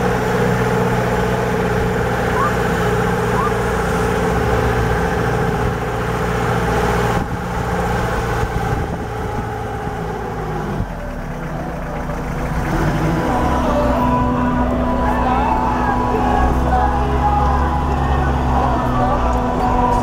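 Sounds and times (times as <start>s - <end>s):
vehicle engine braking drone: 0.0s - 20.0s.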